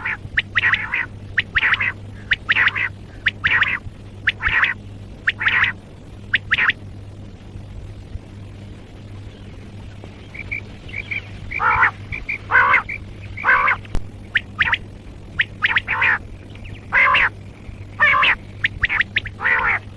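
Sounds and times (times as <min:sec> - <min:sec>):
quail calling: 0:00.0 - 0:06.8, 0:10.2 - 0:19.9
steady low hum: 0:00.0 - 0:19.9.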